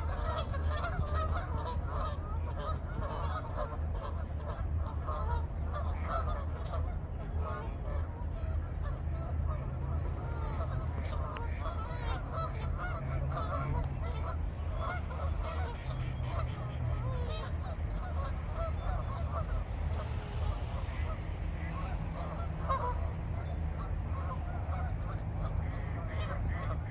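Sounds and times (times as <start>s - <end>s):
steady low rumble: 0.0s - 26.9s
waterfowl calling: 0.0s - 26.9s.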